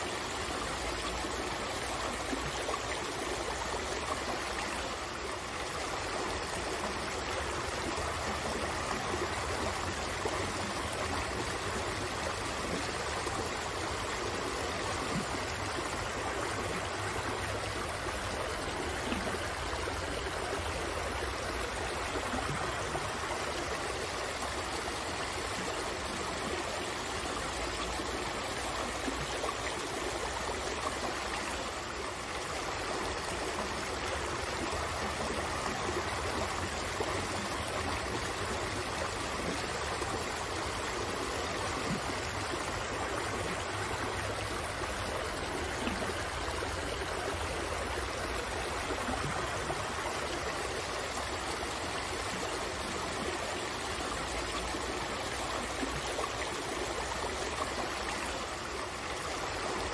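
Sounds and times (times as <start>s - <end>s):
stream running over stones: 0.0s - 59.9s.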